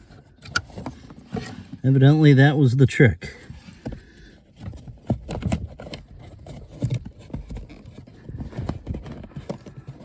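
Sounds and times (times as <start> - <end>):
hands knocking and scraping plastic parts: 0.0 - 2.4, 3.4 - 10.0.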